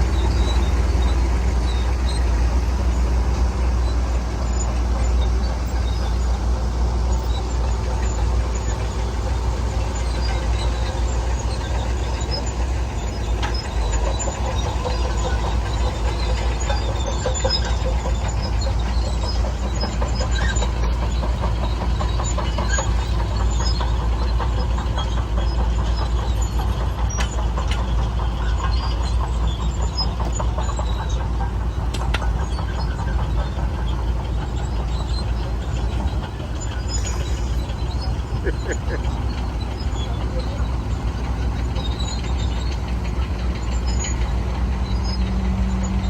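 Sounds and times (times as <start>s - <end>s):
faint clicks and squeaks: 0.0s - 46.0s
heavy diesel engine rumbling: 0.0s - 46.0s.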